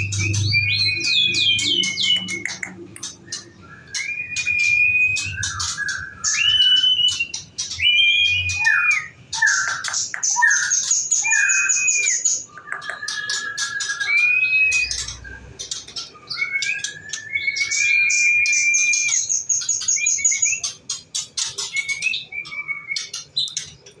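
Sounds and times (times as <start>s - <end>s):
songbird singing whistled phrases: 0.0s - 23.8s
bird chattering trills: 0.0s - 24.0s.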